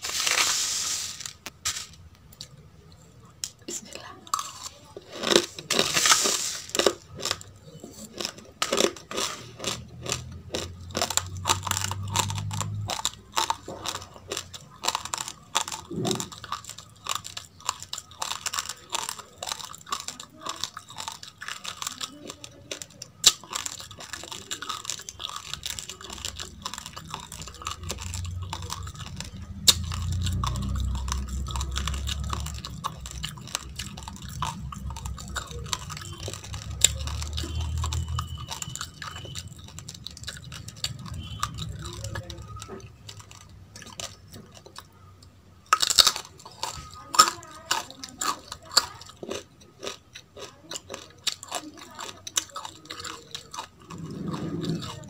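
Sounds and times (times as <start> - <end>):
crunchy chewing of raw rice: 0.0 - 2.6, 3.6 - 55.0.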